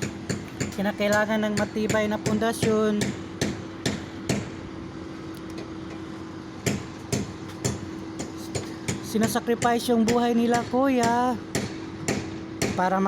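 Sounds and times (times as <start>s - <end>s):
distant hammer blows: 0.0s - 4.7s, 6.0s - 12.9s.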